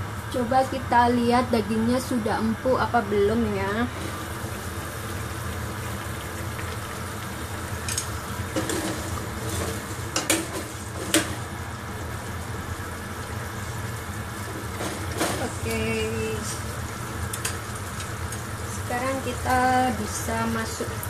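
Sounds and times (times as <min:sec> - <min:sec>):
broth simmering and bubbling: 0:00.0 - 0:21.0.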